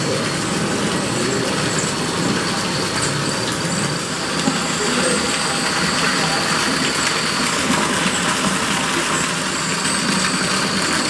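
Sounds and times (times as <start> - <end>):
waterfall splashing into pool: 0.0 - 11.0.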